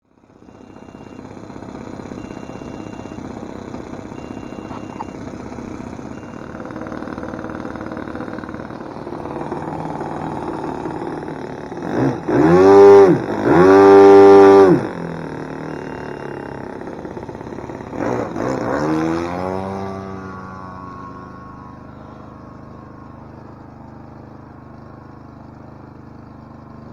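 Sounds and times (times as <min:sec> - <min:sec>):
model airplane engine: 0:00.0 - 0:26.9.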